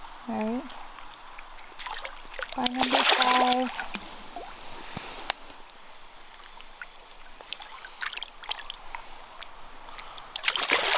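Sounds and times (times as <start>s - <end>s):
river water trickling: 0.0s - 10.9s
small splashes and drips: 0.3s - 4.8s, 6.3s - 10.9s.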